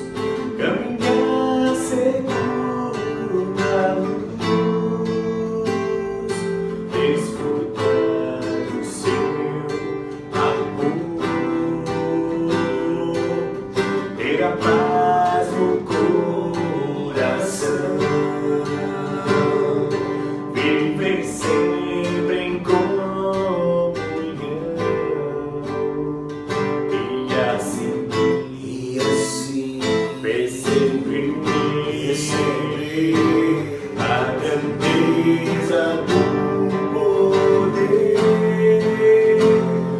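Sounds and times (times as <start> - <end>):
plucked guitar melody: 0.0 - 39.9
strummed acoustic guitar chords: 0.0 - 39.9.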